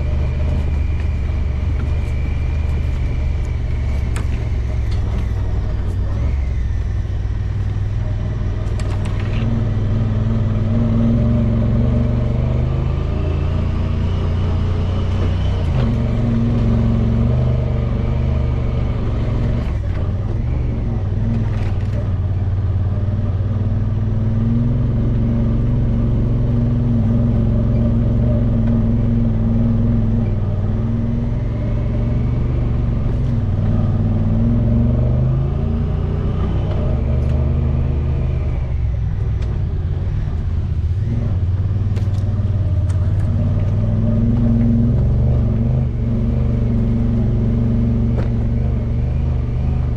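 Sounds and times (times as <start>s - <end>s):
utility vehicle engine running: 0.0s - 49.9s.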